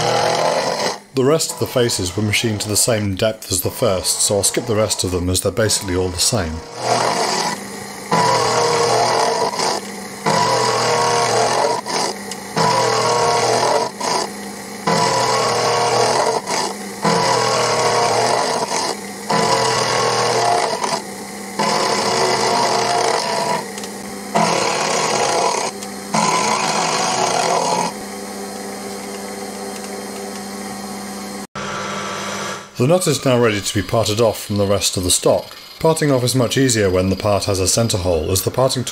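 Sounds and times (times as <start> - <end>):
mill cutting steel: 0.0 - 38.9
mill motor humming: 0.0 - 38.9.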